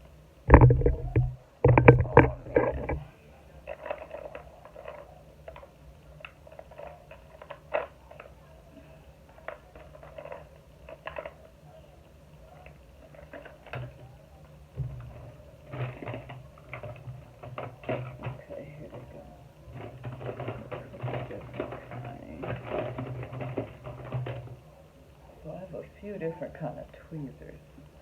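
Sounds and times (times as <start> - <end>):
light clicks and rattles: 0.5 - 24.8.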